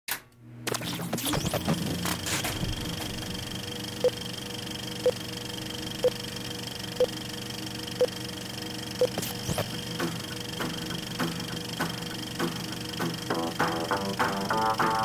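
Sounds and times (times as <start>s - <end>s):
film projector whirring: 0.6s - 15.0s.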